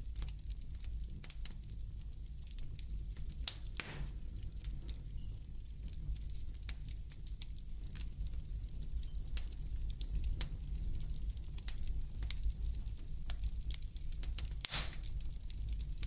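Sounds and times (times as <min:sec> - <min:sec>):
fire crackling and popping: 0:00.0 - 0:16.0
fire rumbling in fireplace: 0:00.0 - 0:16.0.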